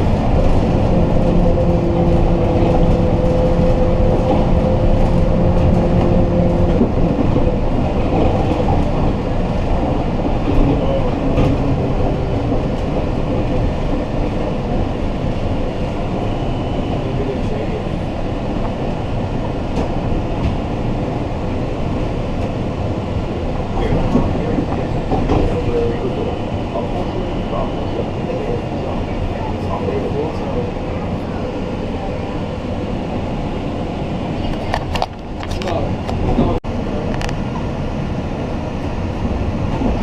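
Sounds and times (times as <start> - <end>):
rail vehicle rumbling: 0.0 - 40.0.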